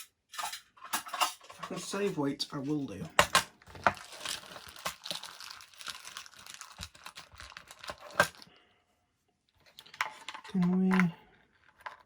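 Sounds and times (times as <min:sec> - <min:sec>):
electronics parts rustling and clicking: 0:00.4 - 0:08.5, 0:09.6 - 0:12.0.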